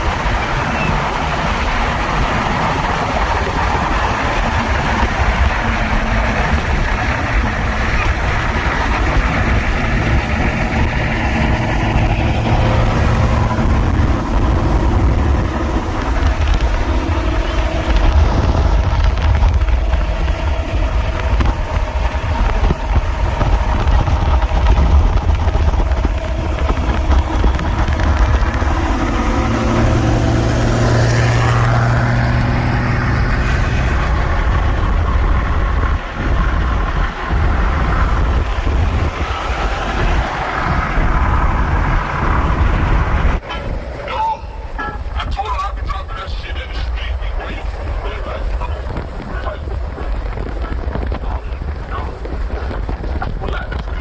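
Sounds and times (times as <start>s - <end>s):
cars rolling past: 0.0s - 54.0s
wind buffeting microphone: 0.0s - 54.0s.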